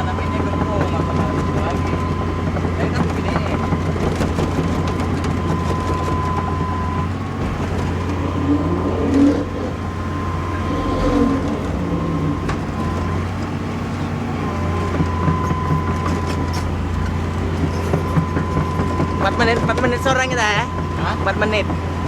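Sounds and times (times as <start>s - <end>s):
constant high whine: 0.0s - 22.0s
diesel engine running: 0.0s - 22.0s.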